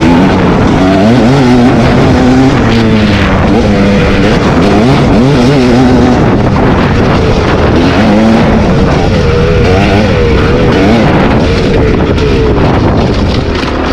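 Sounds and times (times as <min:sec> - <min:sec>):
dirt bike engine revving: 0:00.0 - 0:13.9.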